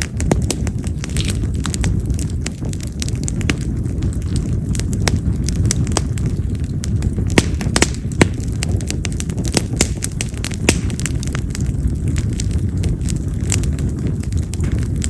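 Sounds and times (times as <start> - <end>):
firewood crackling and popping: 0.0 - 15.0
flames rushing: 0.0 - 15.0.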